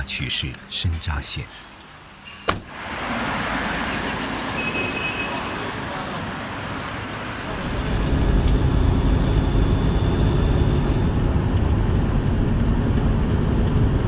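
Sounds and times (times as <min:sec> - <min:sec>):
car engine and tyres rumbling: 0:02.6 - 0:14.0.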